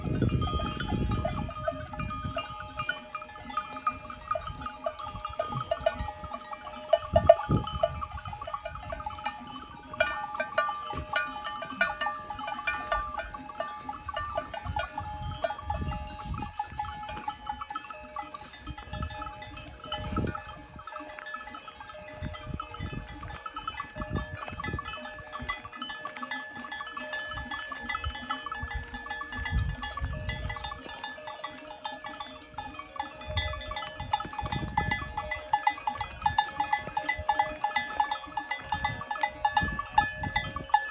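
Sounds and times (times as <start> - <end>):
goat bells clanking: 0.0 - 40.9.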